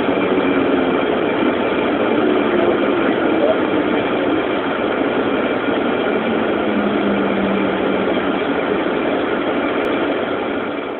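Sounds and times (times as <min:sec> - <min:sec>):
jet engines running: 0:00.0 - 0:10.9.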